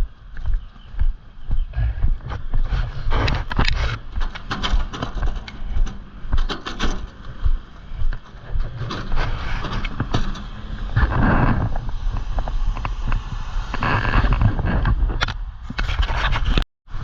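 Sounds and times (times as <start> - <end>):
passing road traffic rumble: 0.0 - 15.7
footsteps on roadside: 0.0 - 15.8.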